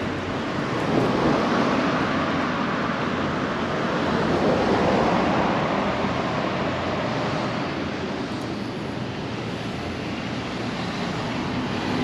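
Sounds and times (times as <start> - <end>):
steady hum of traffic: 0.0 - 12.0.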